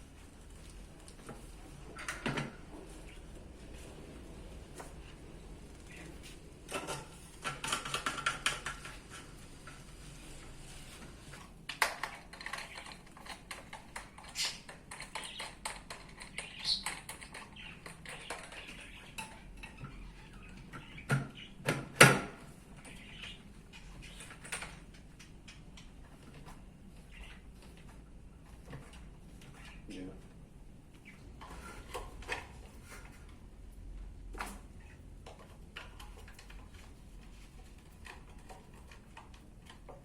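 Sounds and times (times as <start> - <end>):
fan parts clicking and rattling: 0.1 - 10.6, 11.2 - 40.0.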